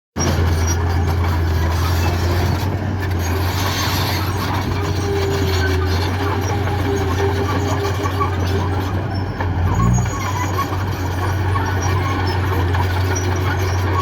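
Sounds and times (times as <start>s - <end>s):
diesel engine droning: 0.2s - 14.0s.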